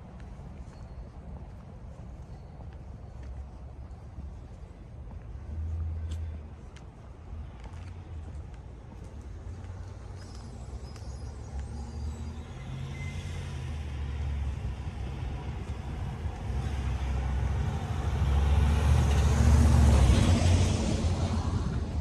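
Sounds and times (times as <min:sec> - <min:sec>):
vehicle engine hum: 0:03.2 - 0:22.0.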